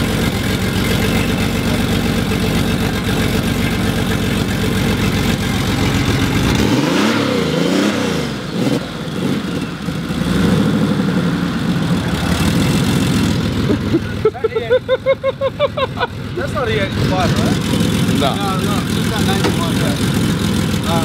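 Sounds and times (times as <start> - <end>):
engine revving: 0.0 - 14.2, 16.3 - 21.0
car engine idling: 0.0 - 21.0.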